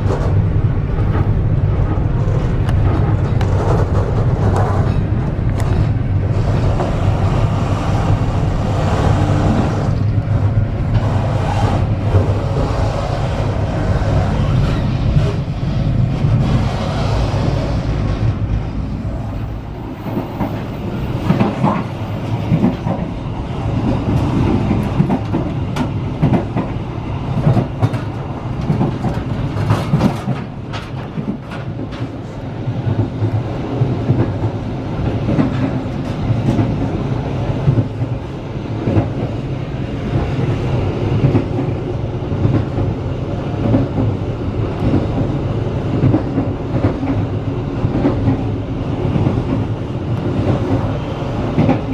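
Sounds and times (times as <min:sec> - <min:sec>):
train running gear rumble: 0:00.0 - 0:51.9.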